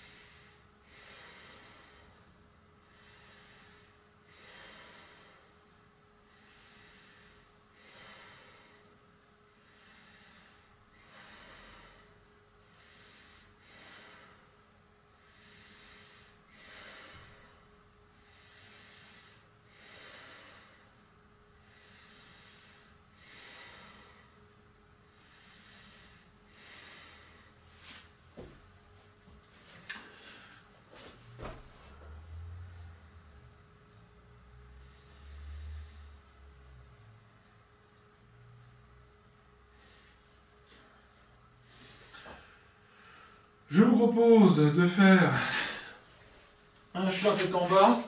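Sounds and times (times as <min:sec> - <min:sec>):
person breathing slowly: 0:00.0 - 0:28.5, 0:29.8 - 0:43.6, 0:45.3 - 0:48.0.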